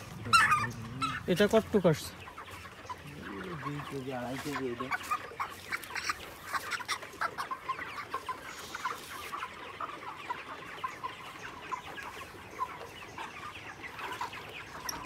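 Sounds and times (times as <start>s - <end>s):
chickens peeping and clucking: 0.0s - 15.0s.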